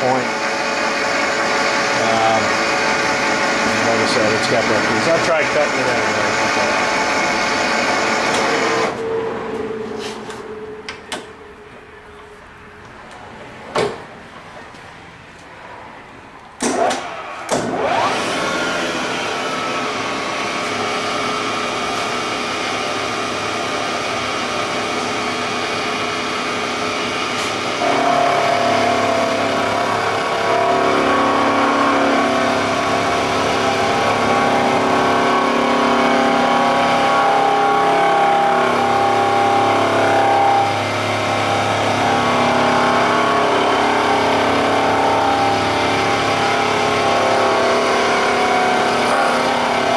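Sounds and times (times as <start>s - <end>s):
mill spindle whine: 0.0s - 13.6s, 14.4s - 49.9s.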